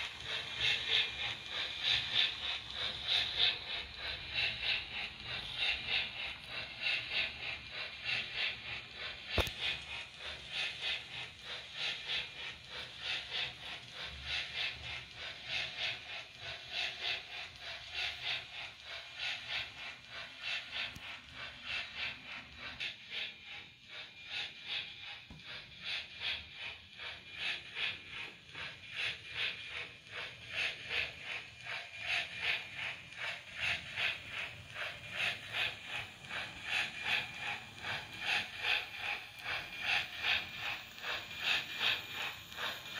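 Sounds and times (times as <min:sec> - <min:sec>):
model train running: 0:00.0 - 0:42.9.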